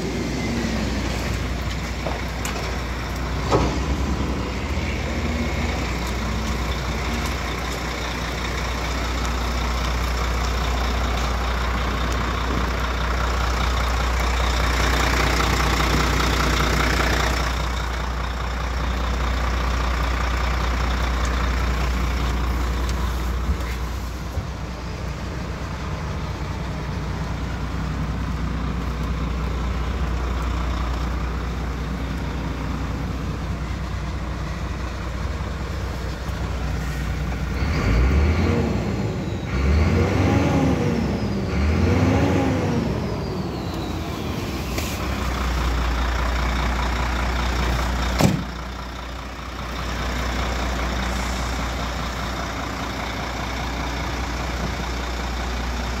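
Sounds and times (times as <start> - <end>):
truck diesel engine idling and revving: 0.0 - 56.0.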